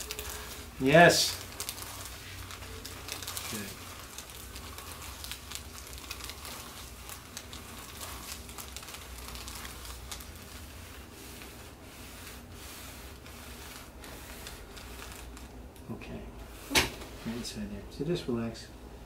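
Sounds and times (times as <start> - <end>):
hands kneading neck and hair: 0.0 - 15.8.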